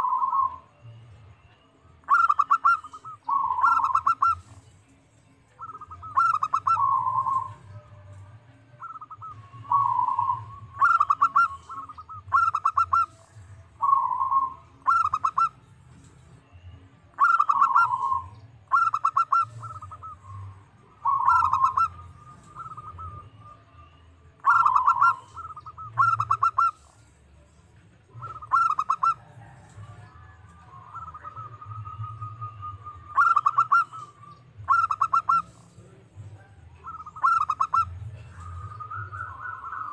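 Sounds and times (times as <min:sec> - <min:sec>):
dove cooing: 0:00.0 - 0:00.8, 0:02.0 - 0:04.7, 0:05.6 - 0:08.0, 0:08.7 - 0:15.7, 0:17.1 - 0:27.2, 0:28.1 - 0:39.9.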